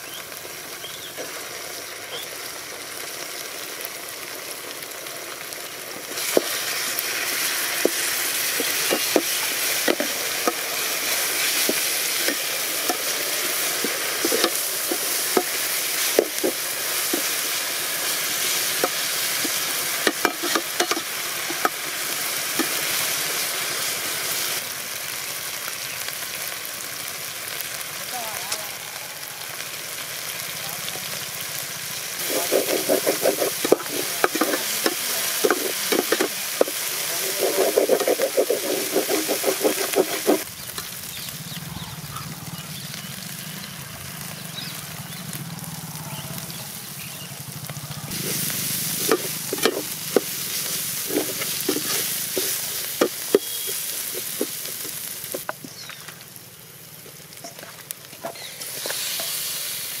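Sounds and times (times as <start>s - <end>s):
oil sizzling in a pan: 0.0s - 60.0s.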